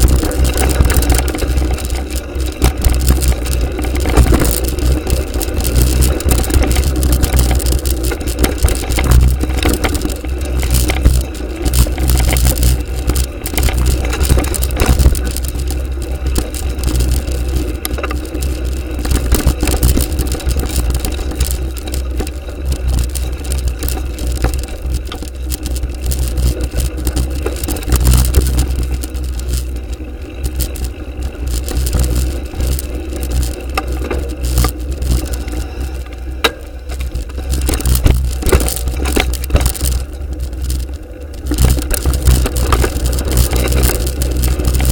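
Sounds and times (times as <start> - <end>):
bike rattling: 0.0 - 44.9
tyres scraping over loose ground: 0.0 - 44.9
wind rumbling on microphone: 0.0 - 44.9.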